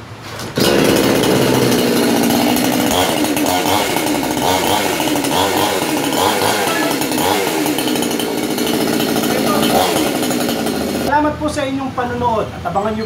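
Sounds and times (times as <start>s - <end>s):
chainsaw engine revving: 0.6s - 11.1s.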